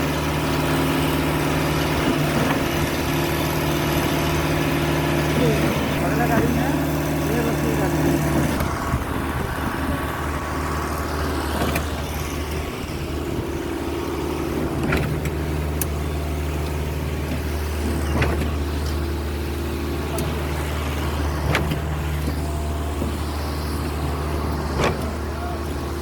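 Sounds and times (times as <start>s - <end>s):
heavy engine running: 0.0s - 26.0s.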